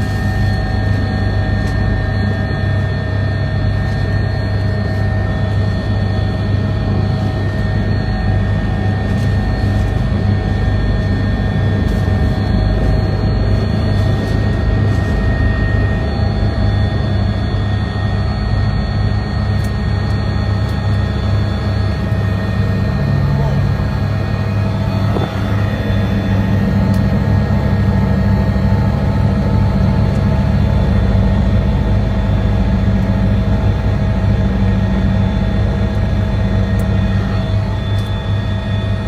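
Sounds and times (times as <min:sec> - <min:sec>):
helicopter engine and rotor: 0:00.0 - 0:39.0.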